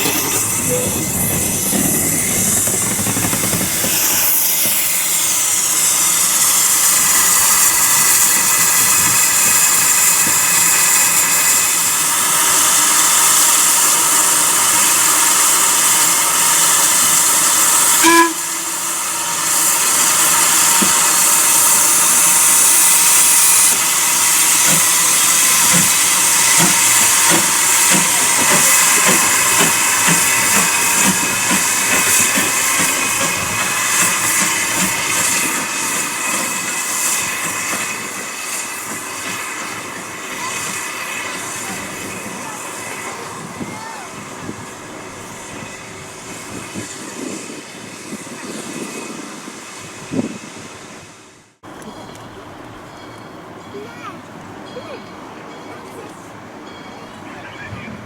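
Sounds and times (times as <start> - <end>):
steam locomotive hissing: 0.0 - 53.1.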